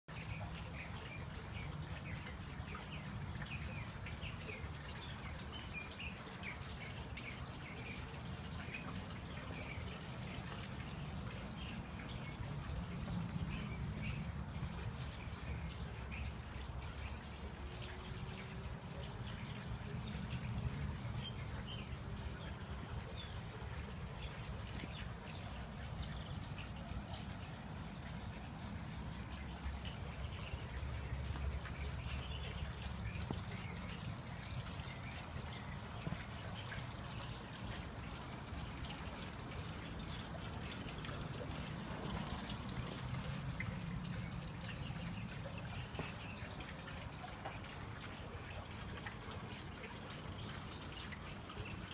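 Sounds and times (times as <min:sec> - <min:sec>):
birds chirping: 0:00.1 - 0:51.9.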